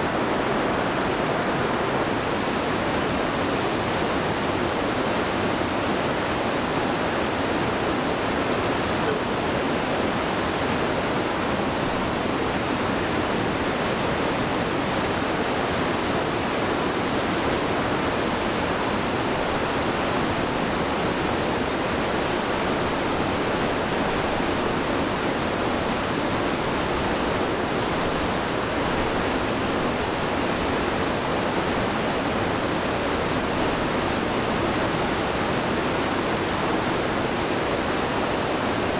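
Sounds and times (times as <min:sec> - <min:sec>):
rushing whitewater: 0:00.0 - 0:38.9.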